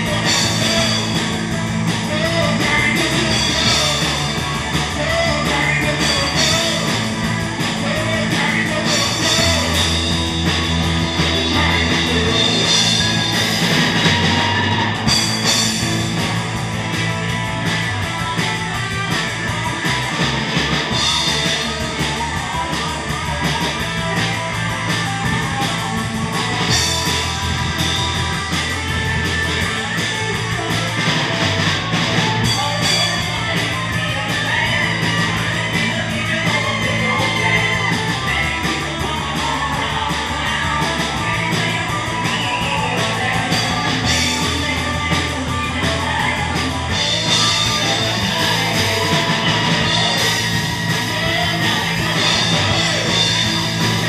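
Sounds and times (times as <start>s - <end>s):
person singing: 0.0s - 16.1s, 18.2s - 54.0s
drums: 0.0s - 54.0s
electric guitar: 0.0s - 54.0s
live rock band: 0.0s - 54.0s.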